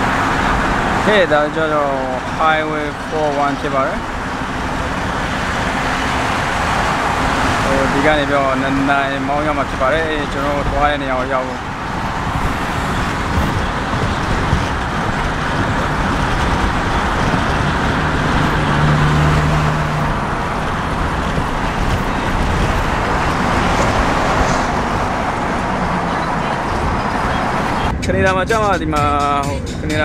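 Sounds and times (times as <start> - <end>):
road and tyre noise in car: 0.0 - 30.0.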